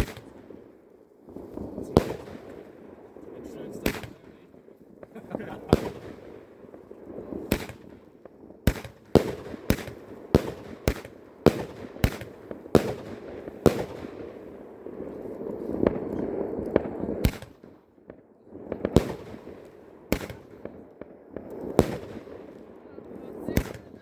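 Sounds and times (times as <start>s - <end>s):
fireworks crackling hiss: 0.0s - 17.9s, 18.5s - 24.0s
fireworks bangs: 0.0s - 24.0s.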